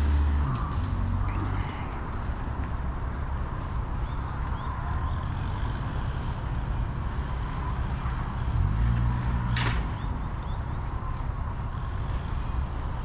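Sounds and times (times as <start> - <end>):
city traffic rumble: 0.0 - 13.0
vehicle engine passing: 0.0 - 13.0.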